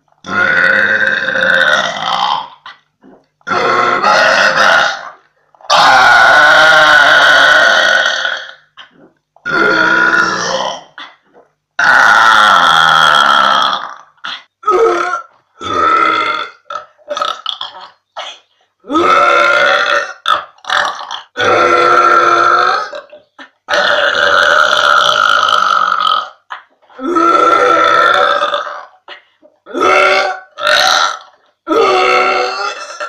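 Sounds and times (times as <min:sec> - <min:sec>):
woman burping loudly: 0:00.2 - 0:18.1, 0:18.8 - 0:33.0.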